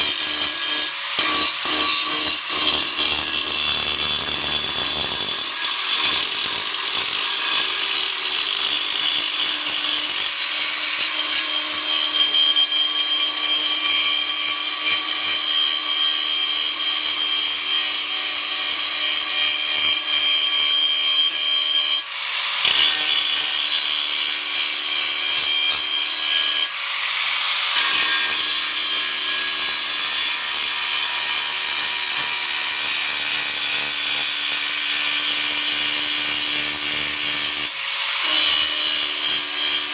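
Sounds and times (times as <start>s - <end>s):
power tool cutting steel: 0.0s - 39.9s.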